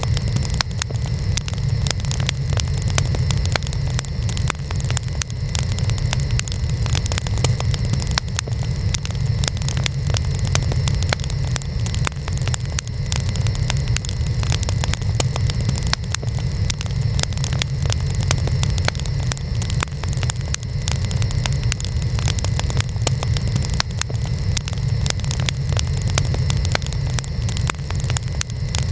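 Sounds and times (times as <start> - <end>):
wood fire crackling and popping: 0.0 - 28.9.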